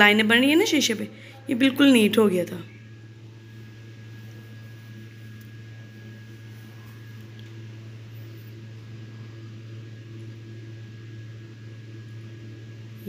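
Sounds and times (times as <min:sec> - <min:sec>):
low machine hum: 0:00.0 - 0:13.0
thin high whine: 0:00.0 - 0:13.0.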